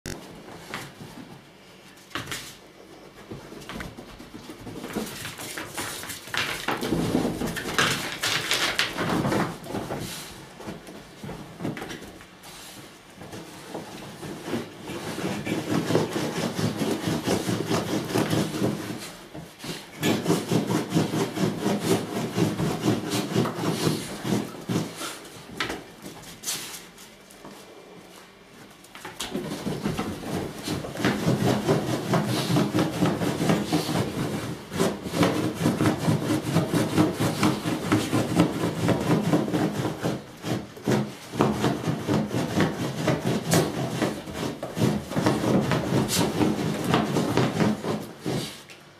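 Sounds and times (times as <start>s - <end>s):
dogs scuffling: 0.1s - 48.8s.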